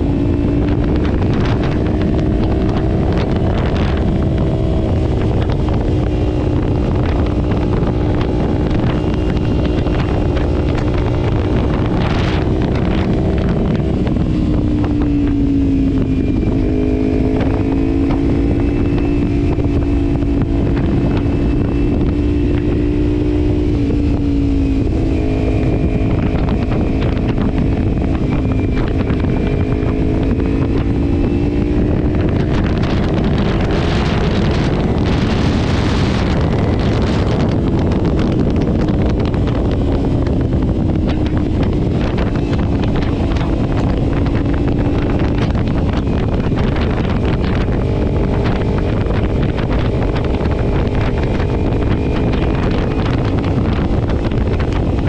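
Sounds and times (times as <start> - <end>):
gusty wind hiss: 0.0 - 55.0
motorcycle engine cruising: 0.0 - 55.0
wind rumble on microphone: 0.0 - 55.0.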